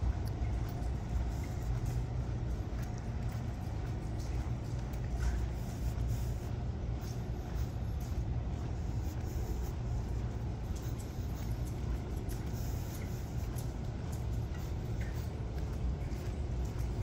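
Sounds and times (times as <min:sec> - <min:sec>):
low urban background rumble: 0:00.0 - 0:17.0.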